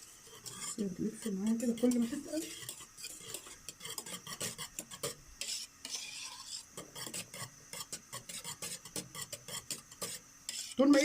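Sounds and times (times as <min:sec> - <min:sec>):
whisk scraping metal pot: 0:00.0 - 0:11.0.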